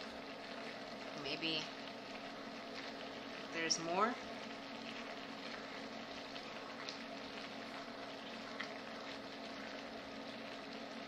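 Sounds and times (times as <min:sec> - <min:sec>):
sauce sizzling in a pan: 0:00.0 - 0:11.0
steady low hum: 0:00.0 - 0:11.0.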